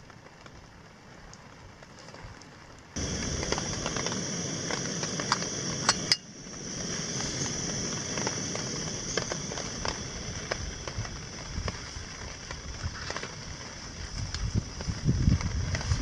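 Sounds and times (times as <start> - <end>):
faint rain: 0.0 - 16.0
light crackling ticks: 0.0 - 16.0
stove burner hissing: 3.0 - 16.0.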